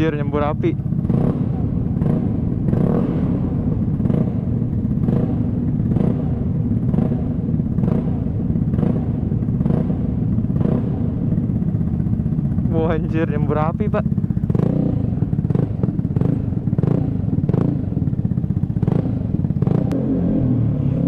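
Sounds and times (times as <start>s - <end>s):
scooter engine rumbling: 0.0s - 21.0s.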